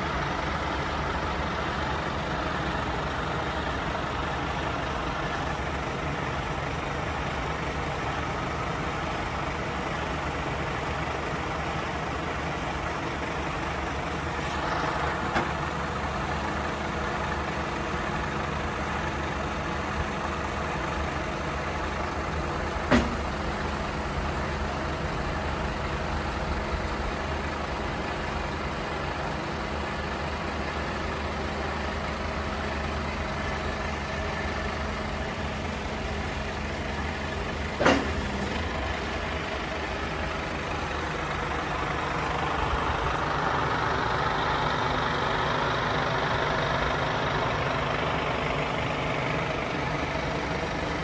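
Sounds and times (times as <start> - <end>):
truck diesel engine running: 0.0 - 51.0.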